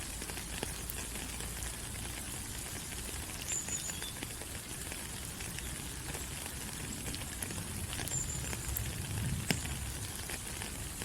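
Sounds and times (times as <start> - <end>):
rain falling on leaves: 0.0 - 11.0
raindrops ticking: 0.0 - 11.0.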